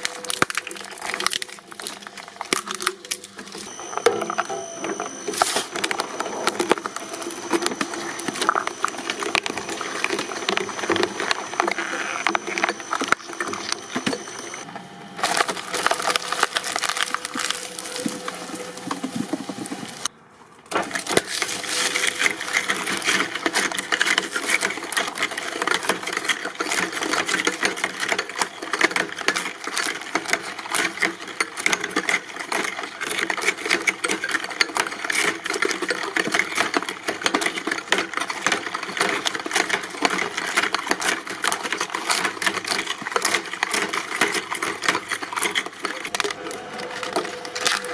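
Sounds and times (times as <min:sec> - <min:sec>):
press machine crushing objects: 0:00.0 - 0:20.1, 0:20.7 - 0:47.9.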